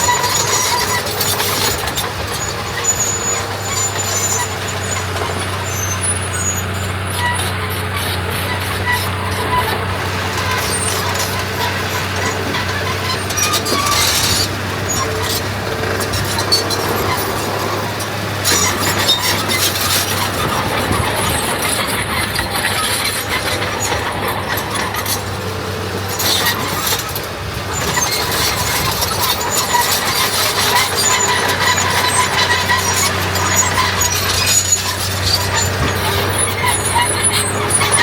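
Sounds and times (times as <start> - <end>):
heavy diesel machinery engine: 0.0 - 38.0.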